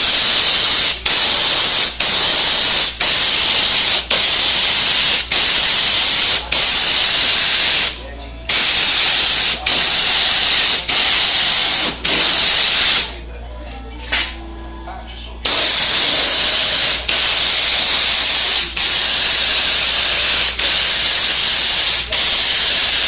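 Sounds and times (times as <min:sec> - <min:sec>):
air spray gun hissing: 0:00.0 - 0:13.2, 0:15.5 - 0:23.0.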